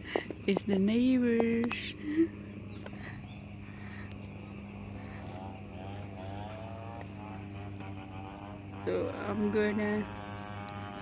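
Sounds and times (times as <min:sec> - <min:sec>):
insect trilling: 0:00.0 - 0:11.0
low steady hum: 0:00.0 - 0:11.0.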